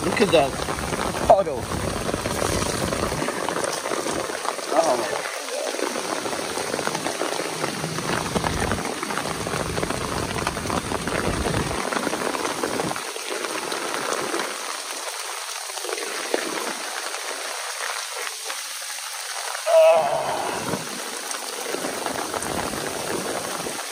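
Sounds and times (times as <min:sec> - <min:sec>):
heavy rain: 0:00.0 - 0:23.9.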